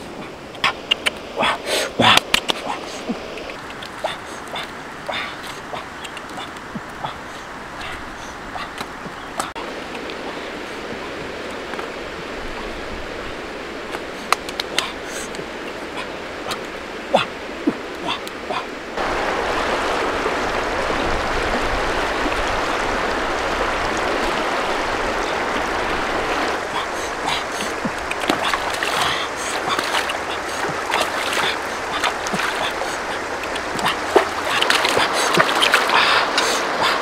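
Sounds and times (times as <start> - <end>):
stream rushing over rocks: 0.0 - 37.0
fish splashing in water: 3.5 - 11.2, 14.3 - 37.0.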